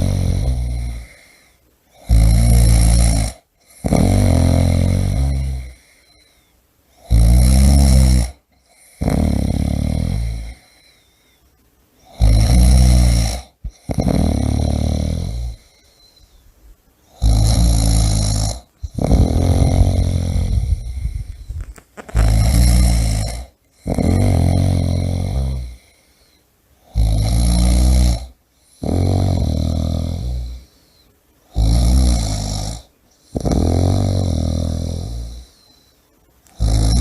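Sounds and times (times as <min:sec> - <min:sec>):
person snoring: 0:00.0 - 0:06.4, 0:07.0 - 0:11.1, 0:12.0 - 0:16.2, 0:17.1 - 0:35.8, 0:36.5 - 0:37.0.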